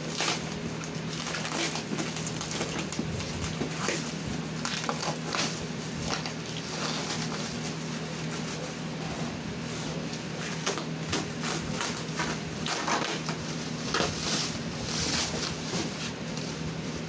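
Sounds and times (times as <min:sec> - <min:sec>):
plastic wrap crinkling: 0:00.0 - 0:08.8, 0:09.6 - 0:17.0.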